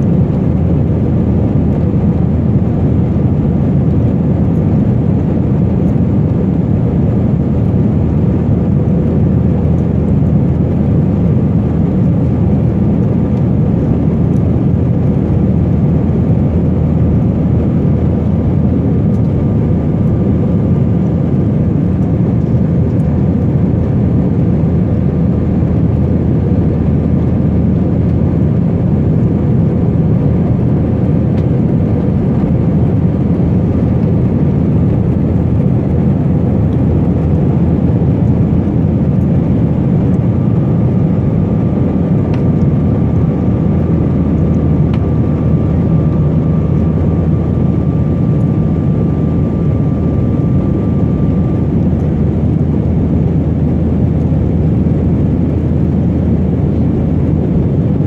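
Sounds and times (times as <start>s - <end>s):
faint steady hum: 0.0s - 58.0s
jet engines rumbling in cabin: 0.0s - 58.0s.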